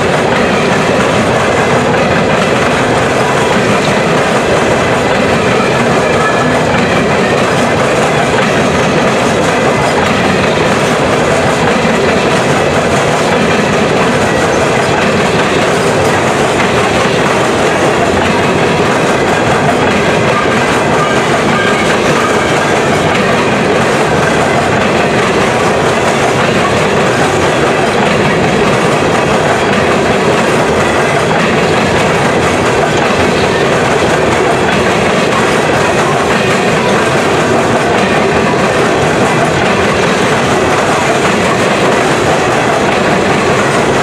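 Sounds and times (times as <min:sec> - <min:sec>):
freight cars rolling on rails: 0:00.0 - 0:44.0.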